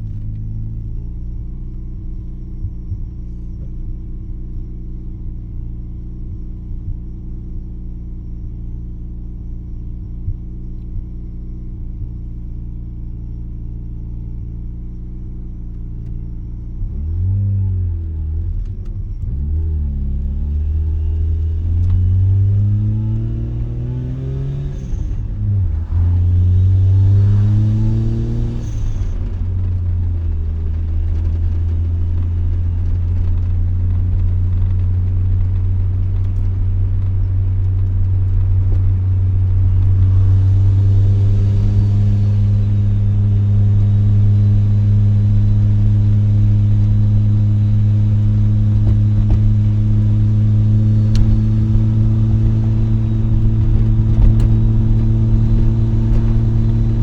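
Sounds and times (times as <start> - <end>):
rotary engine drone from cabin: 0.0 - 57.0.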